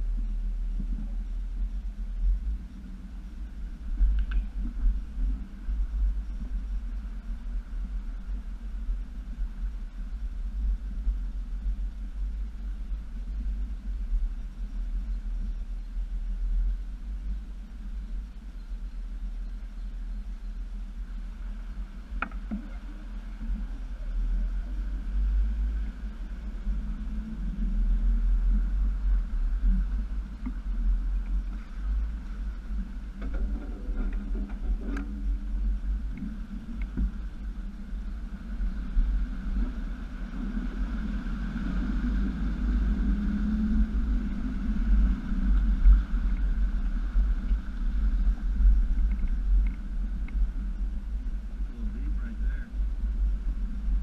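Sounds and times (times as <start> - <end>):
vehicle engine low rumble: 0.0 - 54.0.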